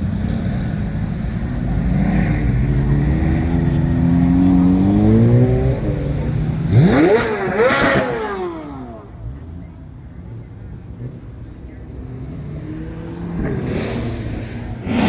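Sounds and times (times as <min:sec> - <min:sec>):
car engine revving: 0:00.1 - 0:09.3, 0:11.8 - 0:15.0.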